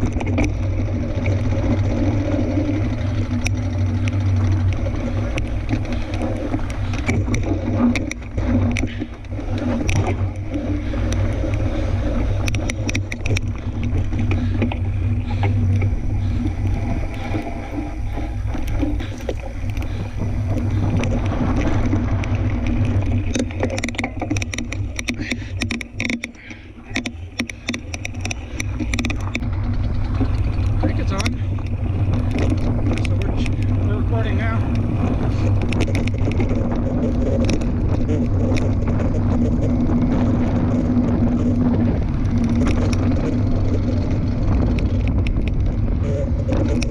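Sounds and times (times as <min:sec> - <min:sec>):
bike clicks and rattles: 0:00.0 - 0:46.9
mountain bike rolling on dirt: 0:00.0 - 0:46.9
wind rumble on microphone: 0:00.0 - 0:46.9.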